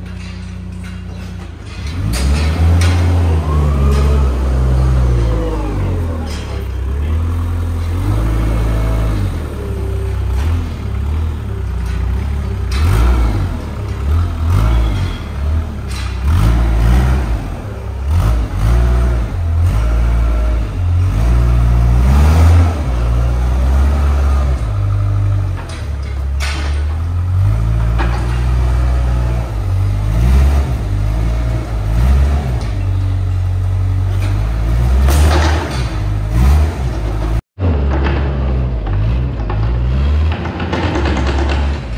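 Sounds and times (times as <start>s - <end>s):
knocks and rattles: 0.0s - 19.2s, 21.4s - 41.9s
loader engine running under load: 0.0s - 41.9s.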